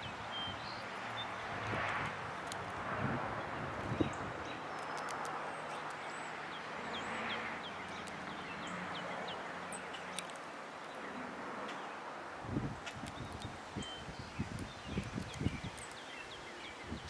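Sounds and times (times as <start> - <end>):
songbird chirping: 0.0 - 12.1, 12.7 - 17.0
outdoor background hiss: 0.0 - 17.0.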